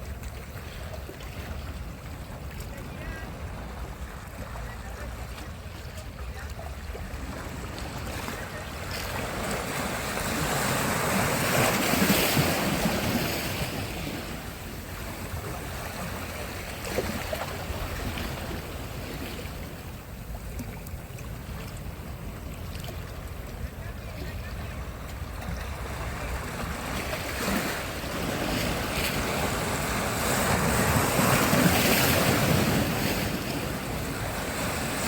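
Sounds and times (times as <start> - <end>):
low rumble of surf: 0.0 - 35.0
waves breaking on beach: 0.0 - 35.0.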